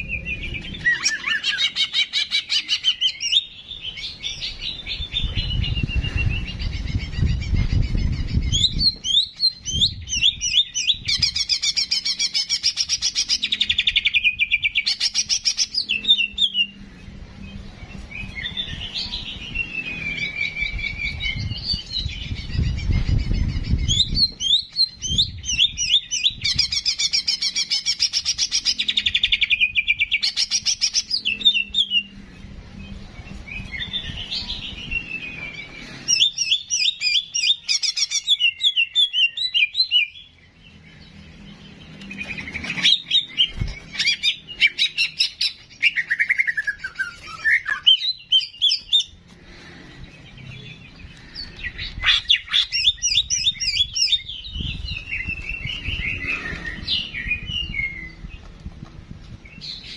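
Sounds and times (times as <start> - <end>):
bird chirping and trilling: 0.0 - 49.2, 49.8 - 58.4.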